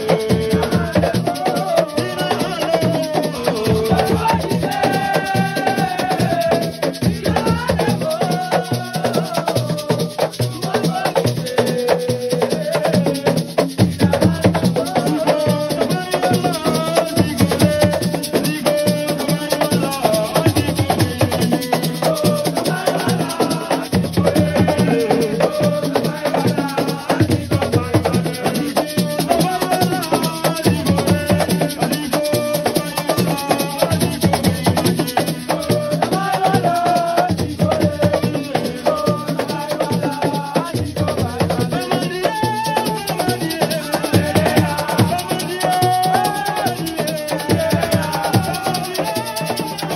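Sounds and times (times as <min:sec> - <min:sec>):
drums: 0:00.0 - 0:49.9
shaken rattles: 0:00.0 - 0:49.9.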